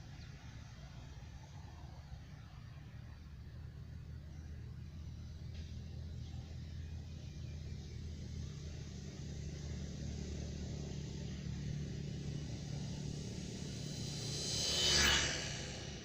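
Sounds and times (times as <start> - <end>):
model airplane droning: 0.0 - 16.0.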